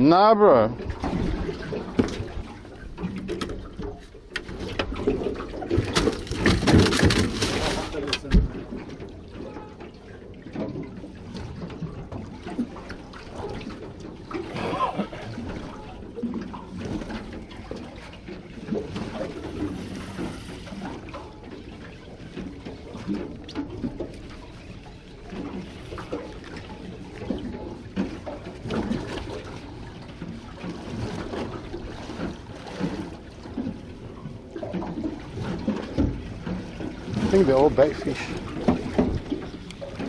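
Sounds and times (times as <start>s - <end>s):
water lapping against boat hull: 0.0s - 40.0s.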